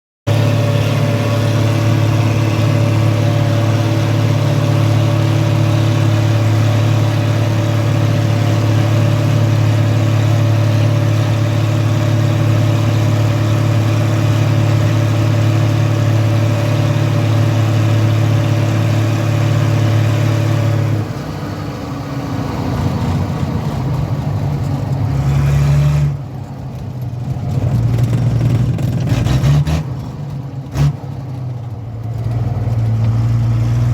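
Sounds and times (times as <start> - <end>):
tractor diesel engine revving: 0.3 - 33.9.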